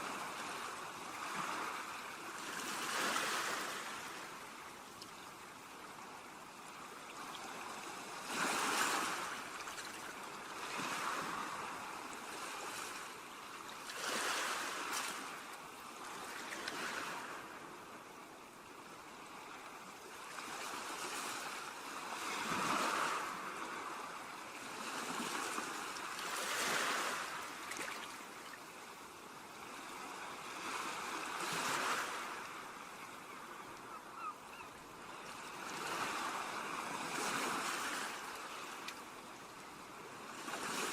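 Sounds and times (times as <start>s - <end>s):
waves breaking on shore: 0.0s - 17.7s, 19.2s - 40.9s.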